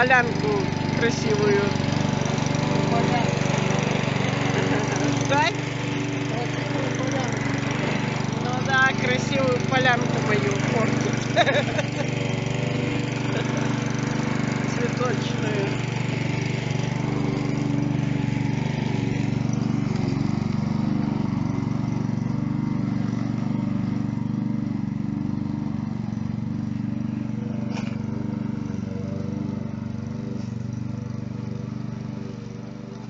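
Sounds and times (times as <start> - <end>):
lawn mower cutting grass: 0.0 - 33.0.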